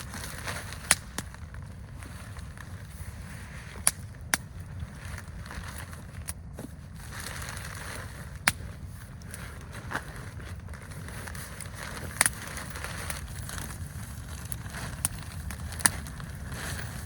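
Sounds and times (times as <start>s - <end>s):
campfire wood popping: 0.0s - 6.6s, 7.2s - 17.0s
low background rumble: 0.0s - 17.0s.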